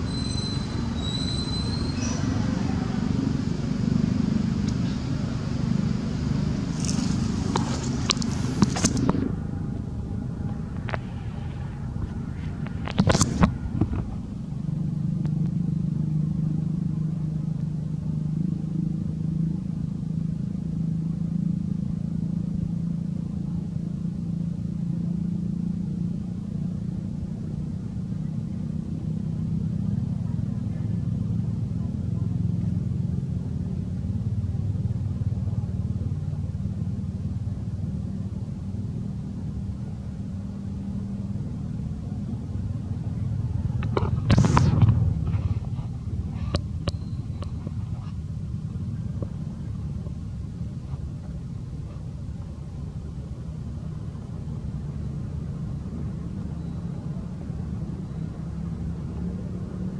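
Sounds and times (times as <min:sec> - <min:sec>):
engine rumbling: 0:00.0 - 0:59.9.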